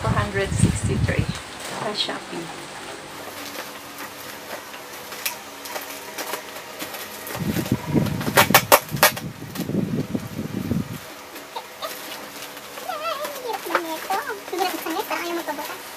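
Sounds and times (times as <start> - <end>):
packaging crinkling and rustling: 2.8 - 15.9.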